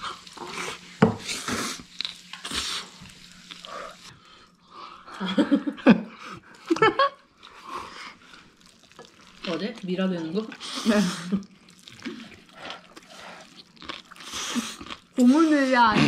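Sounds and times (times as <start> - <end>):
noodles slurped and chewed: 0.0 - 4.3, 6.2 - 16.0.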